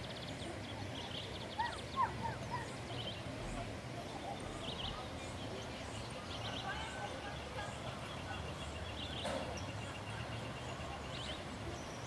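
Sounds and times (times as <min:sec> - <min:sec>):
low background noise: 0:00.0 - 0:12.0
wild birds singing: 0:00.0 - 0:12.0.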